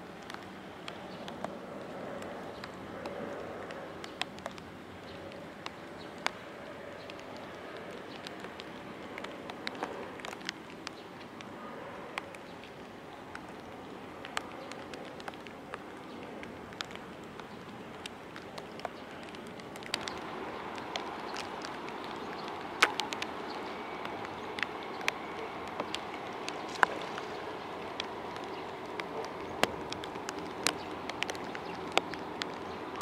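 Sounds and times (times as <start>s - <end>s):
rain falling: 0.0s - 33.0s
raindrops tapping close by: 0.0s - 33.0s.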